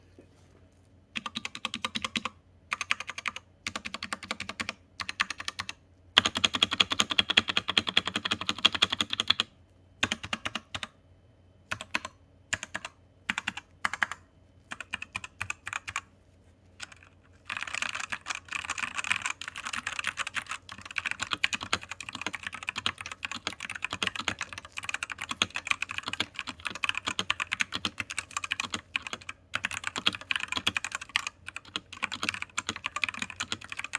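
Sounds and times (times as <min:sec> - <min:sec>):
mechanical keyboard typing: 0:01.2 - 0:10.9, 0:11.7 - 0:16.1, 0:16.8 - 0:33.9.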